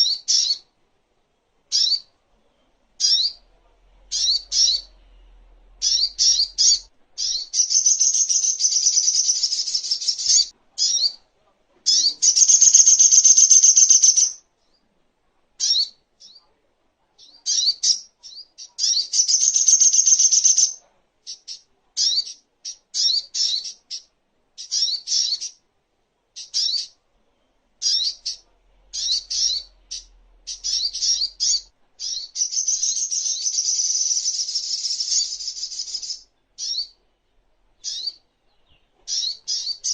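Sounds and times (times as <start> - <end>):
bird chirping and trilling: 0.0 - 0.7, 1.7 - 2.2, 3.0 - 3.5, 4.1 - 11.2, 11.9 - 14.4, 15.6 - 16.4, 17.2 - 25.6, 26.4 - 27.0, 27.8 - 37.0, 37.8 - 39.9.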